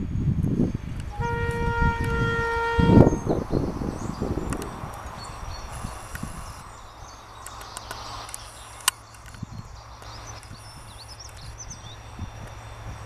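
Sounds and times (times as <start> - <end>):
diesel locomotive engine rumble: 0.0 - 13.0
birds chirping: 0.6 - 13.0.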